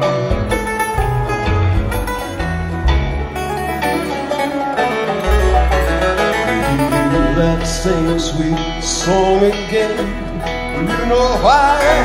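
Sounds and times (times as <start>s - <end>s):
banjo: 0.0s - 12.0s
guitars: 0.0s - 12.0s
mandolin: 0.0s - 12.0s
upright bass: 0.0s - 12.0s.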